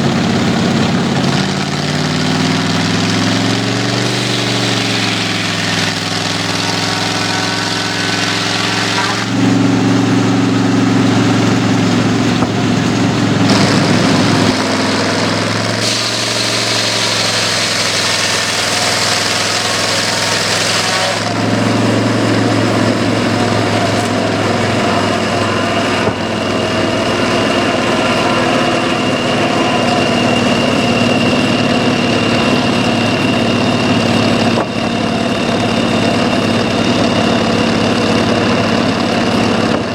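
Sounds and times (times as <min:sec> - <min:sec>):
sawmill running under engine power: 0:00.0 - 0:39.9.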